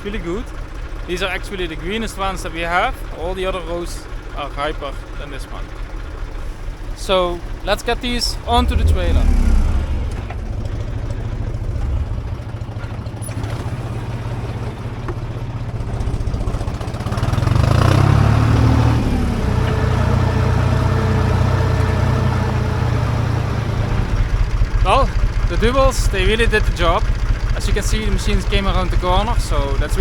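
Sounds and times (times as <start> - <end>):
harvesting machine engine running: 0.0 - 30.0.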